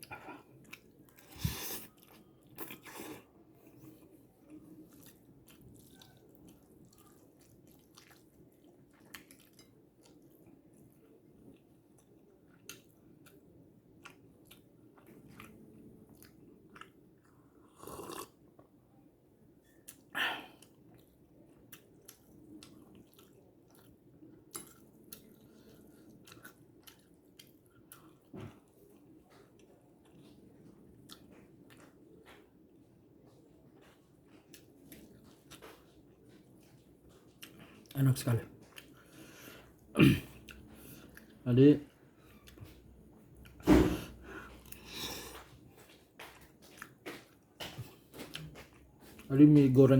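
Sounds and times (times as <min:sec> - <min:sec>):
person chewing noodles: 0:00.0 - 0:18.8, 0:19.7 - 0:49.3.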